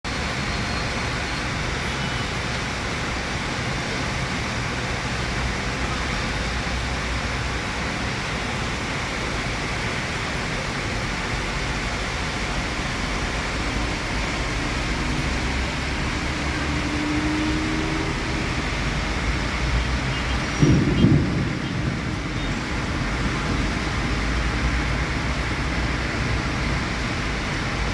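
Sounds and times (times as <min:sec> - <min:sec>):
heavy rain hissing: 0:00.1 - 0:27.9.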